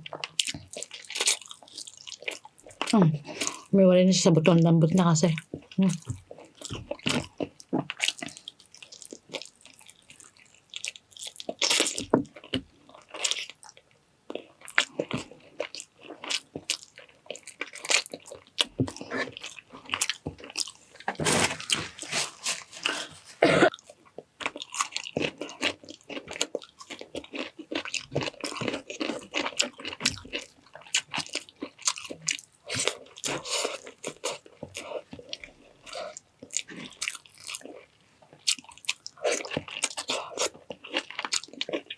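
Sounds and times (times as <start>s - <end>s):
person chewing food: 0.0s - 3.7s, 5.4s - 41.9s.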